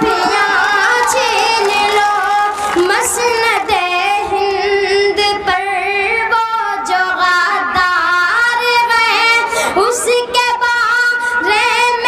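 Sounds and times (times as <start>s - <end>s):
boy singing into a microphone: 0.0s - 12.0s.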